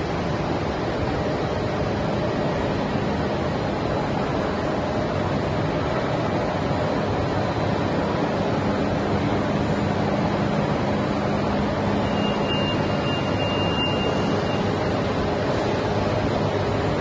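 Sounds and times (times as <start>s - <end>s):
machinery running with low hum: 0.0s - 17.0s.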